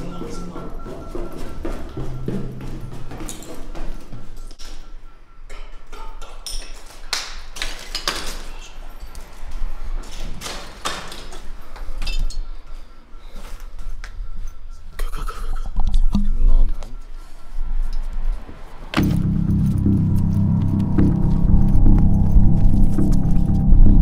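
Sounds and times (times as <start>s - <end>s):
house alarm beeping: 0.0s - 7.7s, 8.4s - 24.0s.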